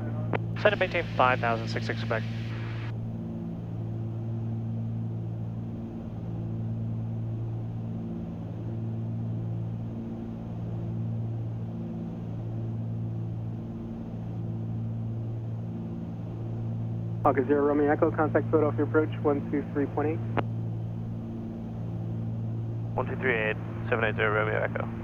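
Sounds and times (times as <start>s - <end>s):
aircraft propellers droning: 0.0s - 25.0s.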